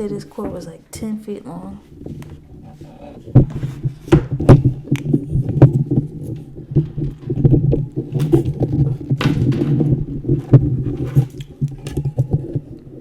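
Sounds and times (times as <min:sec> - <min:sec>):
microphone handling knocks and clicks: 0:01.9 - 0:12.8.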